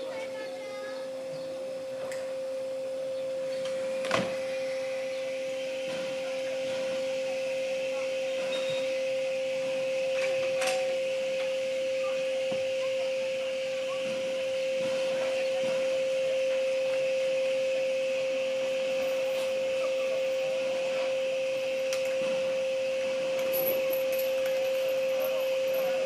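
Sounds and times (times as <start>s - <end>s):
steady electronic tone: 0.0s - 26.0s.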